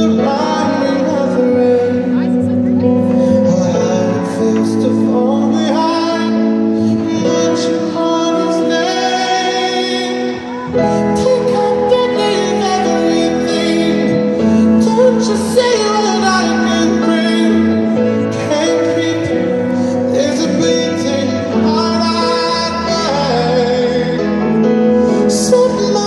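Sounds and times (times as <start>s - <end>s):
high voice singing ballad: 0.0s - 26.0s
instrumental accompaniment: 0.0s - 26.0s.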